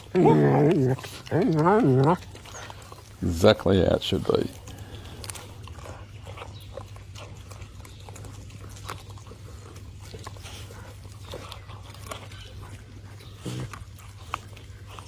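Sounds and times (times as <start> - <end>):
puppy chewing and crunching bone: 0.0 - 15.0
puppy growling: 0.0 - 15.0
steady low hum: 0.0 - 15.0.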